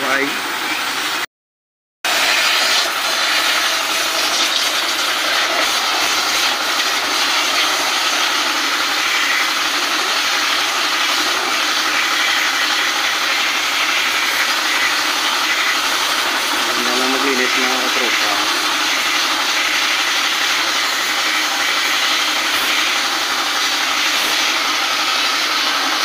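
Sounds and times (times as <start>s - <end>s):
pressure washer spraying metal fins: 2.1s - 26.0s.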